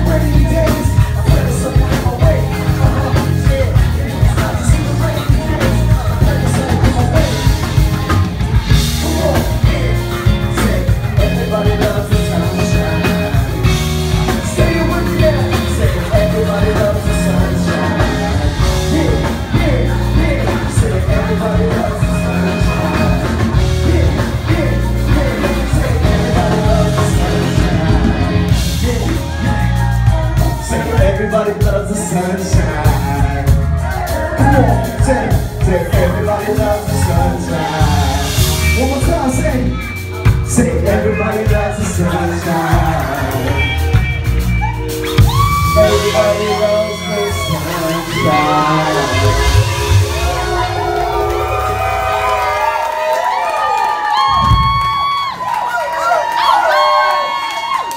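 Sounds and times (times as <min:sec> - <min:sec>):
person singing: 0:00.0 - 0:44.0, 0:44.6 - 0:52.5
bass guitar: 0:00.0 - 0:57.9
drum kit: 0:00.0 - 0:57.9
electric guitar: 0:00.0 - 0:57.9.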